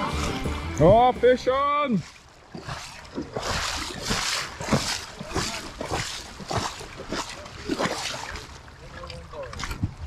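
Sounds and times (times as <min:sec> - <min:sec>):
fish splashing at water surface: 0:01.9 - 0:10.0.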